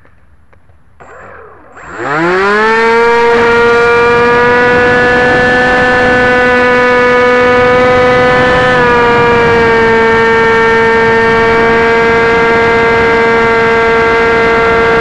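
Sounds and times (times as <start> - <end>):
electric motor and propeller whining: 0.0 - 15.0
wind rush: 2.0 - 15.0.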